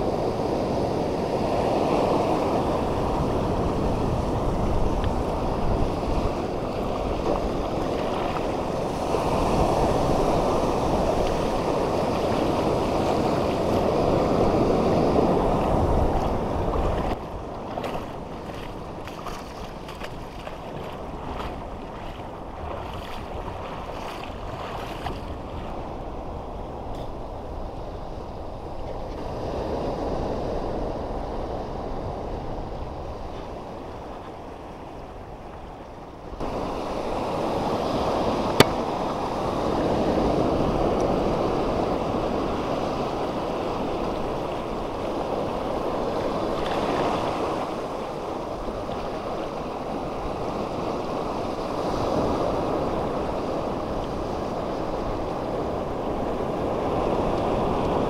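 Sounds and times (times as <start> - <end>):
sea waves washing over rocks: 0.0 - 26.8, 36.4 - 58.0.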